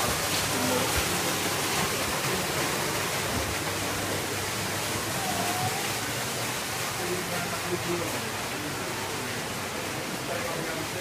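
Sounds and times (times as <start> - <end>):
running water hissing: 0.0 - 11.0.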